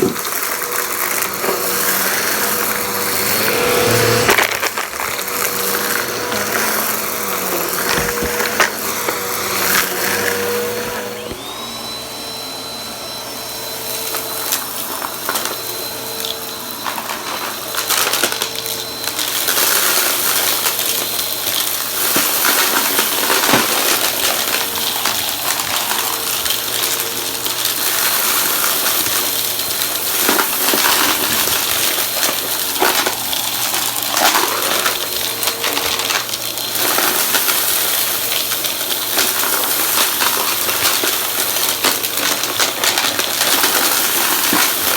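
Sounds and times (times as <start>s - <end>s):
debris rattling through vacuum: 0.0s - 12.0s, 13.5s - 44.9s
vacuum cleaner running: 0.0s - 44.9s
thin high whine: 1.2s - 37.3s.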